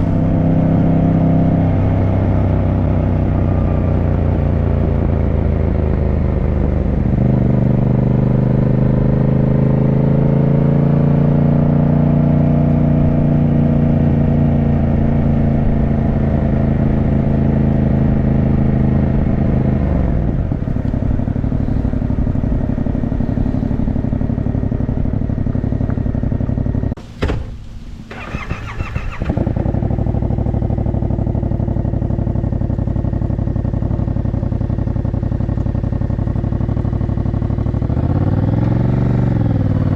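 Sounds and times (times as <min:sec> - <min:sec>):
motorcycle engine running: 0:00.0 - 0:27.0, 0:28.1 - 0:39.9.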